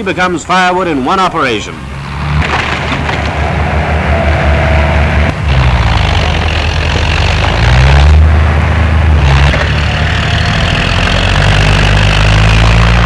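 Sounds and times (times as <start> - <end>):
bulldozer engine under load: 1.8 - 13.0.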